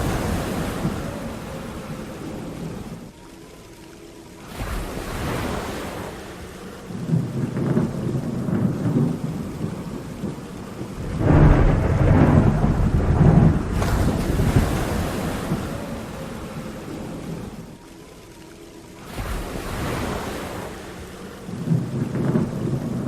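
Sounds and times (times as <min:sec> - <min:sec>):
thunder rumbling: 0:00.0 - 0:03.2, 0:04.4 - 0:23.0
steady rain: 0:00.0 - 0:23.0.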